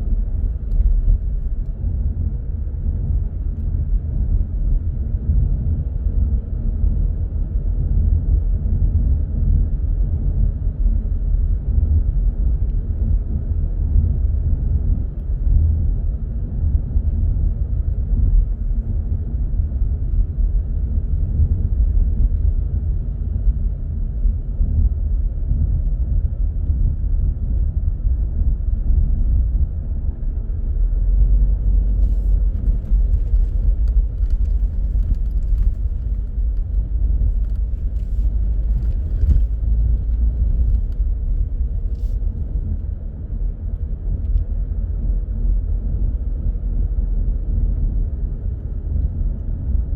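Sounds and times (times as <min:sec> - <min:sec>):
engine and tyre rumble: 0:00.0 - 0:49.9.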